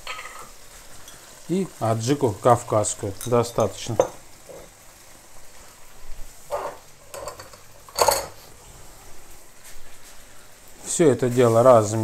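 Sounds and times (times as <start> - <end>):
food sizzling in a wok: 0.0 - 12.0
small kitchen sounds: 0.0 - 12.0.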